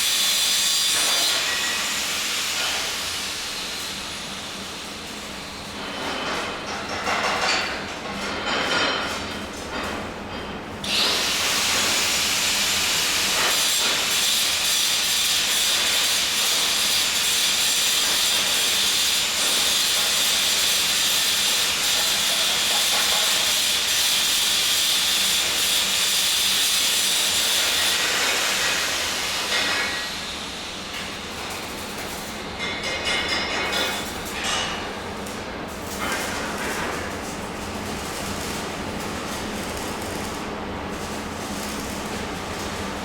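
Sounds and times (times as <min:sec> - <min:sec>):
welding arc hissing: 0:00.0 - 0:05.9, 0:10.8 - 0:43.0.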